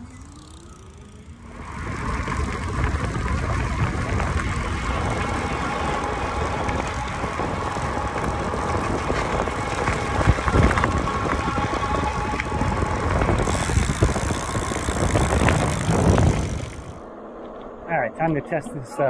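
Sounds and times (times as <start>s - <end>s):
electric hub motor whining: 0.0s - 17.1s
wheels rumbling on pavement: 0.0s - 17.9s.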